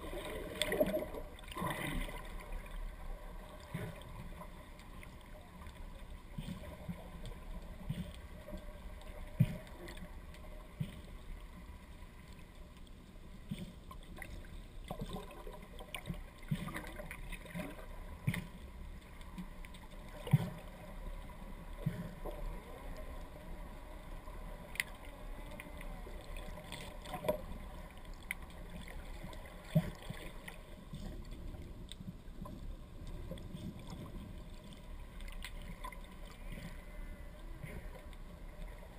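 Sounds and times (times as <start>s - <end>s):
underwater rush of water: 0.0s - 38.9s
water gurgles: 0.0s - 38.9s.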